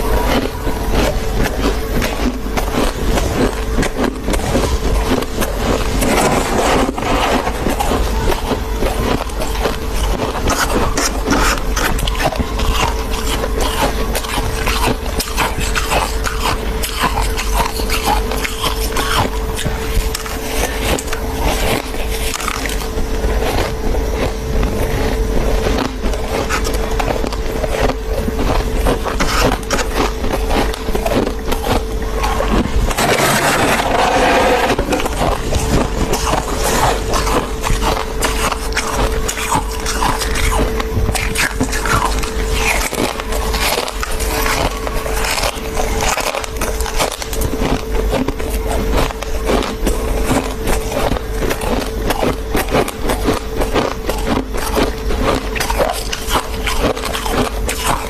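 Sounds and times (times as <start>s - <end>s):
chewing soft frost crunches: 0.0s - 58.0s
steady hum: 0.0s - 58.0s.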